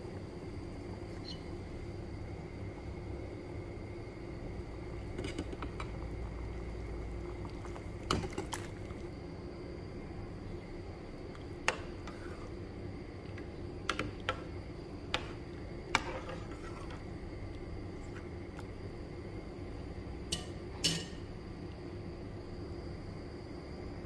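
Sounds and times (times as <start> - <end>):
broth boiling and bubbling: 0.0 - 24.0.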